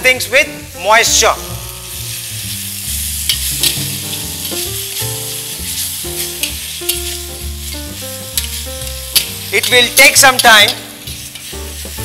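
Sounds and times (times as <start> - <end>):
soft background music: 0.0 - 12.0
masala sizzling in a pan: 0.1 - 12.0
metal spatula scraping a pan: 2.0 - 12.0.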